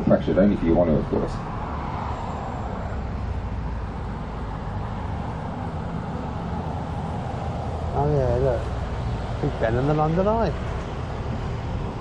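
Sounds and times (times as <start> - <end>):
bus engine hum: 0.0 - 12.0
road and traffic noise: 0.0 - 12.0.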